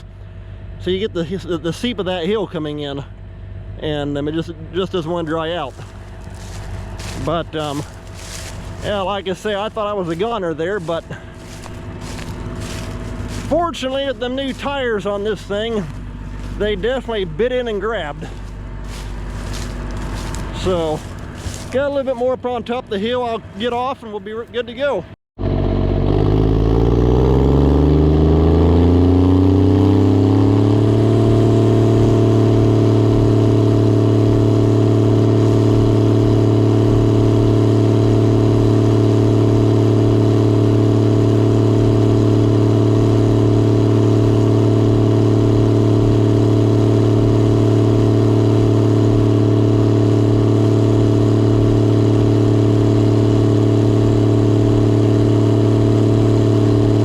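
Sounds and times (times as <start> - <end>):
combine diesel engine revving: 3.6 - 21.9, 25.4 - 57.0.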